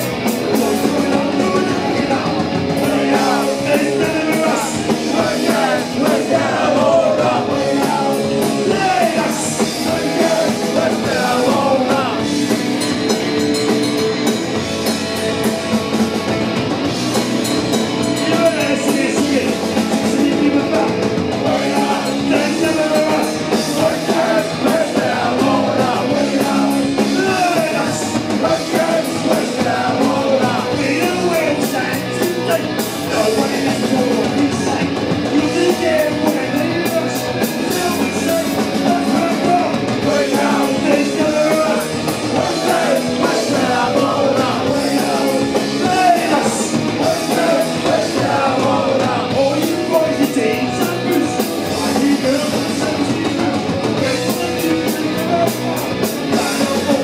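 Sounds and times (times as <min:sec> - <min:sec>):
bass guitar: 0:00.0 - 0:57.0
drum kit: 0:00.0 - 0:57.0
person singing: 0:00.5 - 0:12.8, 0:18.1 - 0:57.0.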